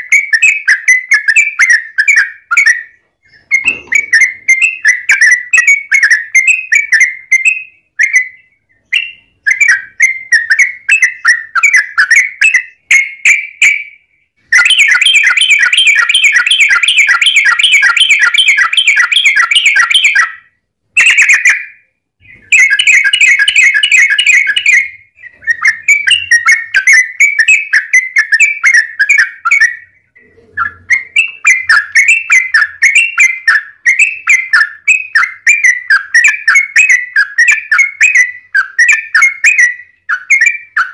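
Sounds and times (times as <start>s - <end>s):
bird trill: 0.0s - 40.9s.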